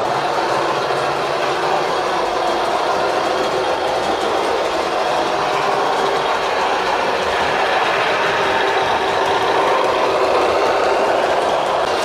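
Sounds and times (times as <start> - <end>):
model train running hum: 0.0 - 12.0
wheels rolling over rails: 0.0 - 12.0.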